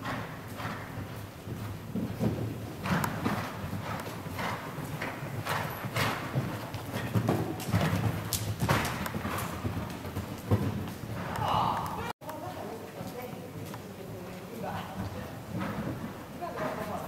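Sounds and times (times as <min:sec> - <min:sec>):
horse hoofbeats on sand: 0:00.0 - 0:11.8, 0:12.4 - 0:17.0.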